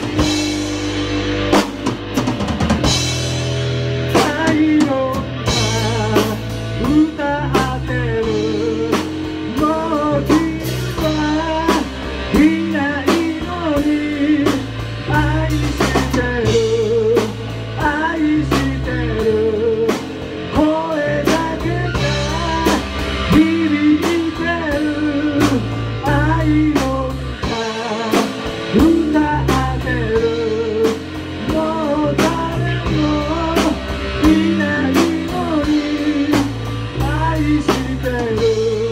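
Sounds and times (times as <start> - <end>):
drum kit beat: 0.0 - 38.9
electric bass guitar: 0.0 - 38.9
electric guitar: 0.0 - 38.9
man singing: 4.1 - 38.9.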